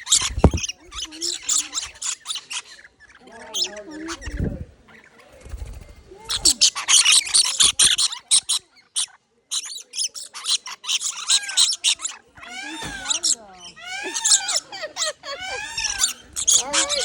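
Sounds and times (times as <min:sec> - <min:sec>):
lorikeets screeching: 0:00.0 - 0:17.0.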